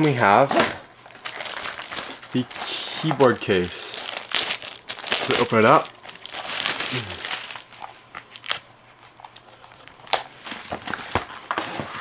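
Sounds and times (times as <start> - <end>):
plastic bag crinkling: 1.0 - 12.0.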